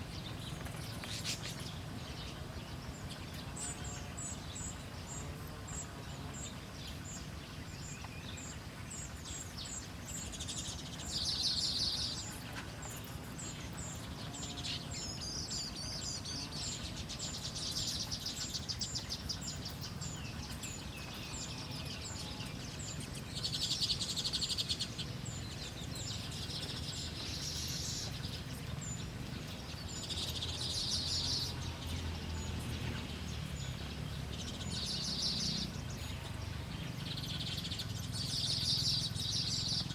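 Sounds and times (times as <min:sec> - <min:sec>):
birds buzzy chattering: 0:00.0 - 0:39.9
songbirds chirping: 0:00.0 - 0:39.9.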